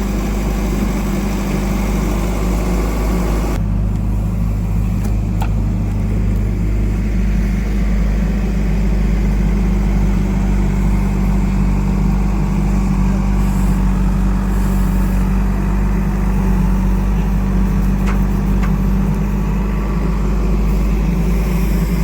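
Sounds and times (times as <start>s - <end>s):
diesel engine hum: 0.0s - 22.0s.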